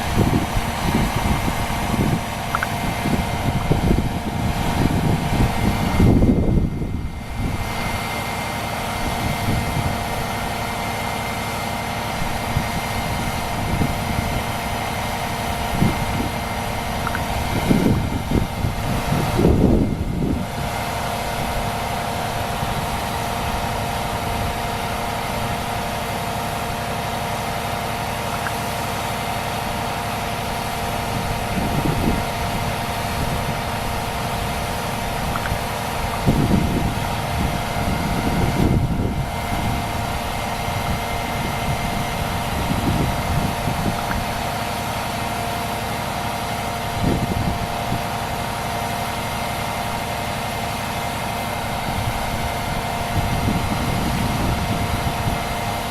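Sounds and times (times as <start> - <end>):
vehicle engine idling: 0.0 - 55.9.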